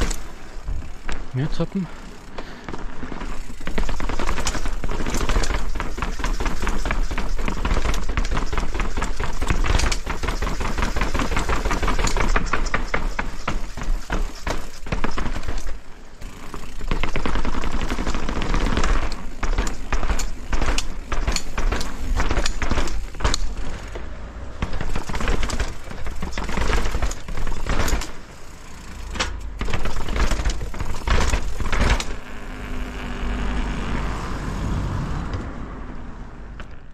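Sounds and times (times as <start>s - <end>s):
mountain bike rattling over rough ground: 0.0s - 34.0s.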